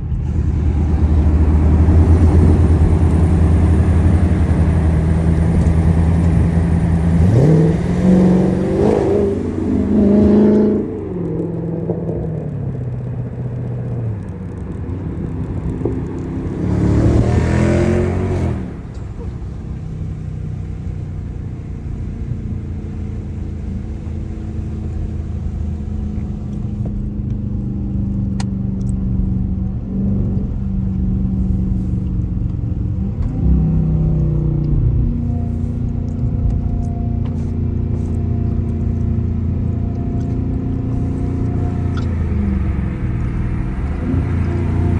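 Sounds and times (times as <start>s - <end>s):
car engine accelerating through gears: 0.0s - 44.9s.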